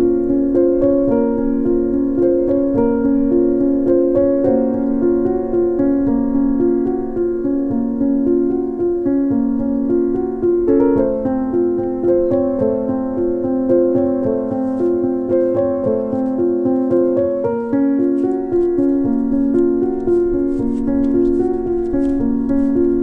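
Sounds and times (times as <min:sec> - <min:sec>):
calm piano melody: 0:00.0 - 0:23.0.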